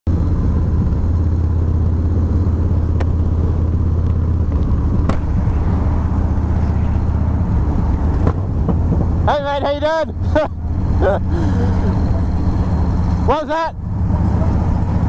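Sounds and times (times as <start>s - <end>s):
motorcycle engine rumbling: 0.1s - 15.0s.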